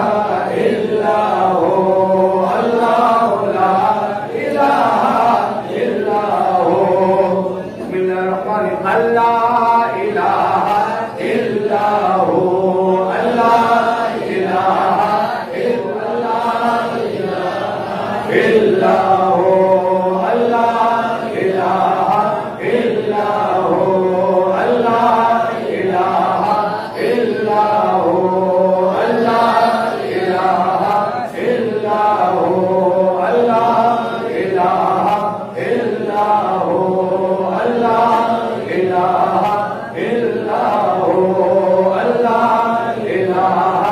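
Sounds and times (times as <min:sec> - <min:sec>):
man chanting a hymn: 0:00.0 - 0:43.9.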